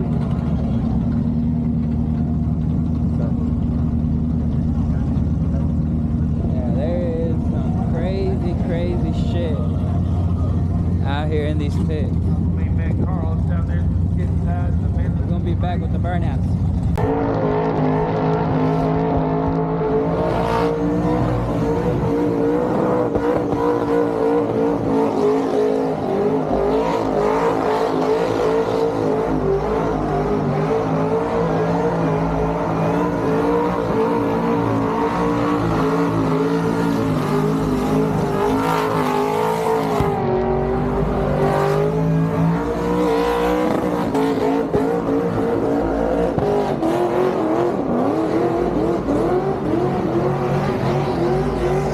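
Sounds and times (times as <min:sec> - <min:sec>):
car engine at high revs: 0:00.0 - 0:51.9.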